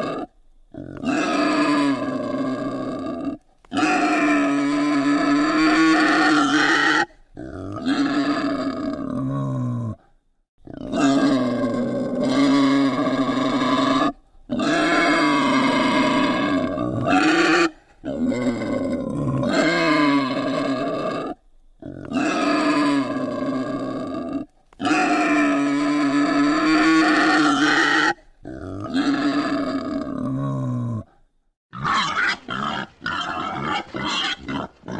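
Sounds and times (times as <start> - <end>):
wild boar grunting: 0.0 - 34.9.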